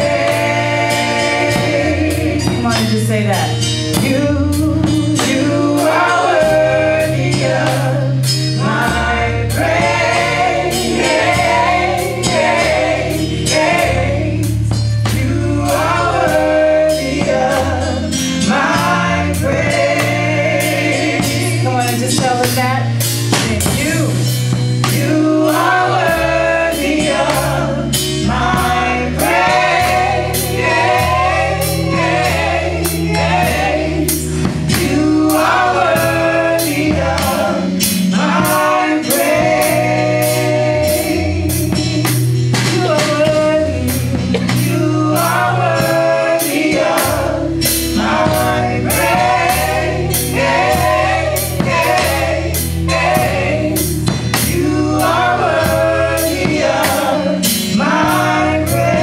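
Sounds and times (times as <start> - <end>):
bass line: 0.0 - 59.0
drum kit beat with cymbals: 0.0 - 59.0
gospel choir singing: 0.0 - 59.0.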